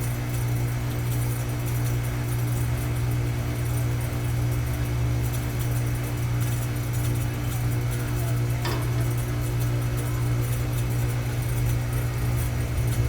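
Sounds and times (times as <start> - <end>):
air conditioner humming: 1.3 - 13.0.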